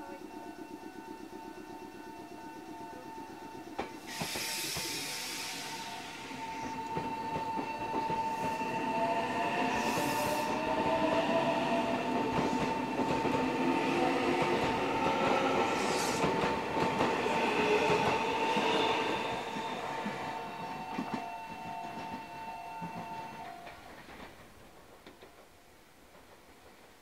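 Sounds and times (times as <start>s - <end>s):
level crossing alarm ringing: 0.0s - 24.2s
train motor whine rising: 0.0s - 25.4s
train wheels on rails: 0.1s - 27.0s.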